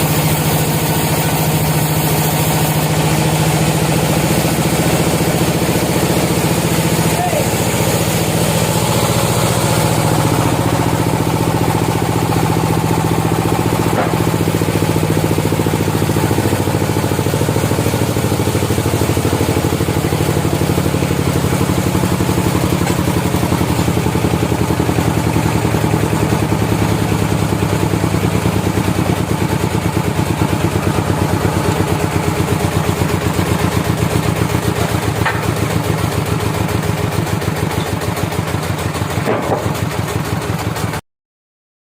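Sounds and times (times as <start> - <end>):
sawmill engine running: 0.0 - 41.0.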